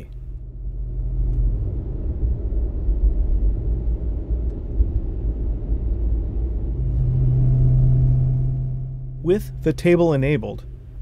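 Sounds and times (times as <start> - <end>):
car engine idling rumble: 0.0 - 11.0.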